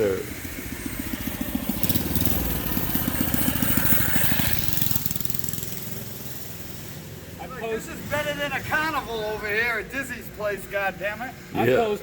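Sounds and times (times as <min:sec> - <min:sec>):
small engine puttering: 0:00.0 - 0:10.7.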